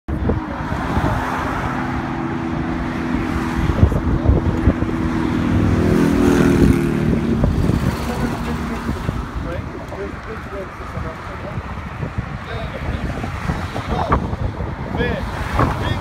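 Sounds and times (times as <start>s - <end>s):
gusty wind rumble on microphone: 0.1s - 16.0s
vehicle engine humming: 0.1s - 16.0s.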